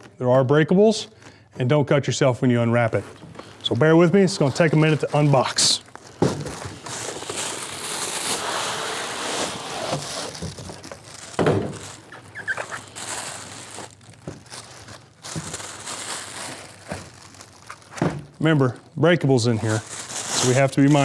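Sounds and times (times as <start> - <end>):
plastic wrap rustling: 0.0 - 21.0.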